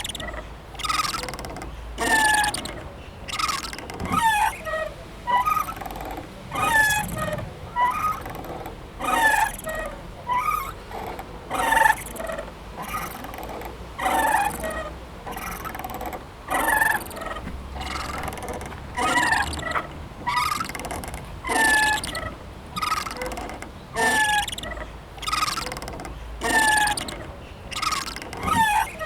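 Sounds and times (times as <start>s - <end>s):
playground swing squeaking: 0.0s - 29.0s.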